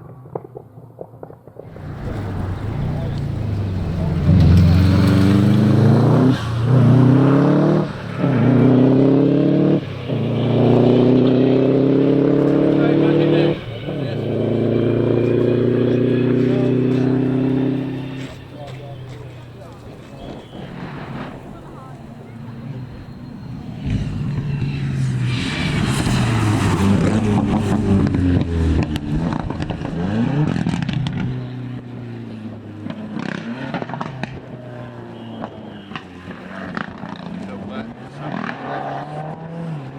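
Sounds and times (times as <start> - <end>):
rally car engine accelerating: 1.6 - 39.9.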